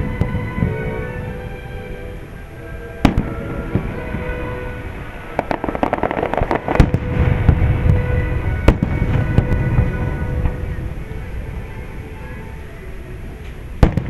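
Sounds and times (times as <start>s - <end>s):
firework bangs: 0.0s - 1.6s, 2.4s - 12.4s, 13.7s - 14.0s
firework crackling: 0.0s - 14.0s.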